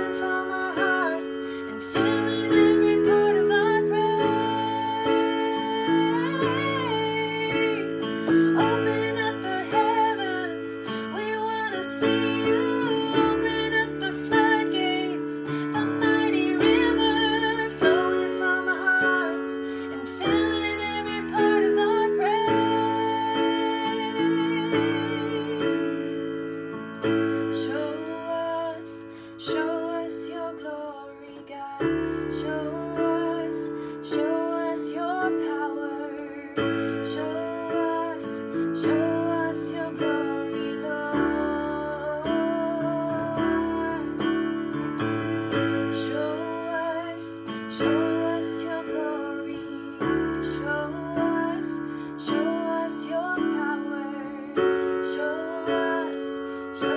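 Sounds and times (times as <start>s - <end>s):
woman singing: 0.0s - 44.8s, 45.5s - 56.9s
keyboard chords: 0.0s - 56.9s.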